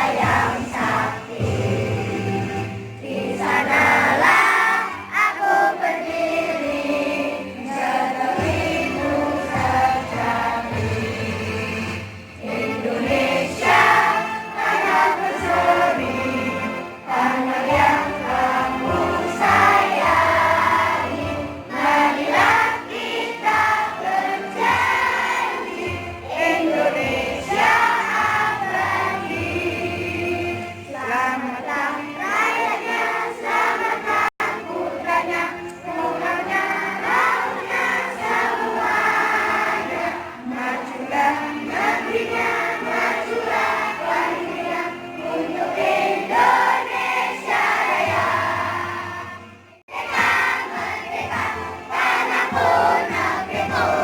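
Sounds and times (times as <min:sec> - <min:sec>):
group of voices singing: 0:00.0 - 0:54.0.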